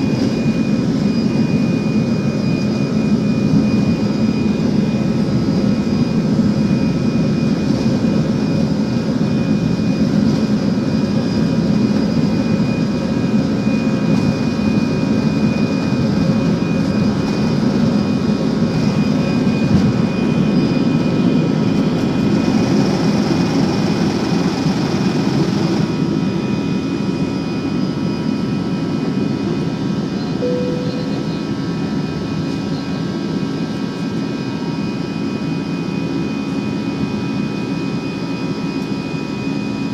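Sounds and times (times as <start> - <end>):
jet engine rumble in cabin: 0.0 - 39.9
thin steady whine: 0.0 - 39.9.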